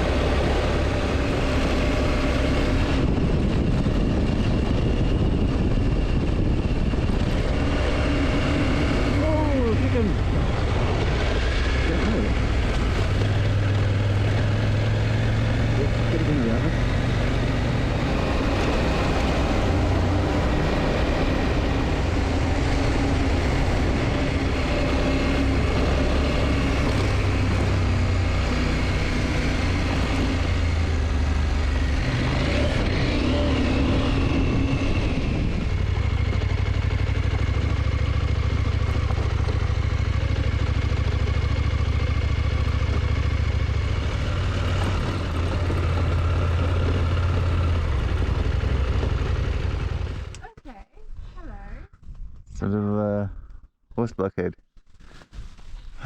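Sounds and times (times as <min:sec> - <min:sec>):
motorcycle engine running: 0:00.0 - 0:51.8
wind and road noise: 0:00.0 - 0:53.7, 0:54.8 - 0:56.0.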